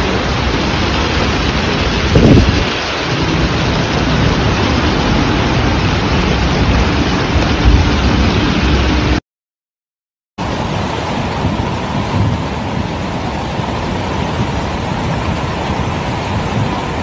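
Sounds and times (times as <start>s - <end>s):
floodwater rushing: 0.0s - 9.2s, 10.4s - 17.0s.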